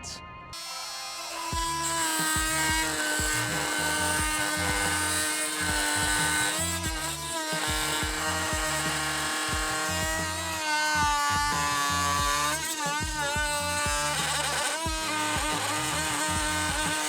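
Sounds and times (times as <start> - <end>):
oscillating multi-tool buzzing: 0.6 - 17.0.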